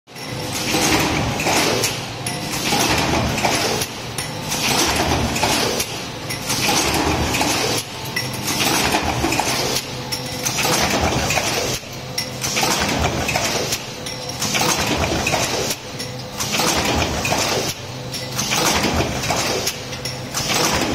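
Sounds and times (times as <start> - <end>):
stamping press metallic clatter: 0.5 - 20.9.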